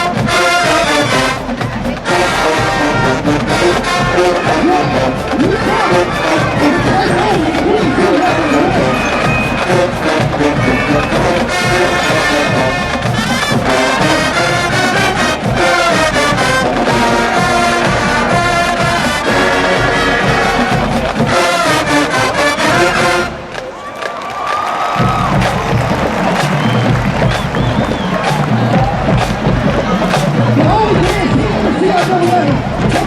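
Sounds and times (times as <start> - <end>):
drumline: 0.0 - 33.0
marching band brass: 0.0 - 33.0.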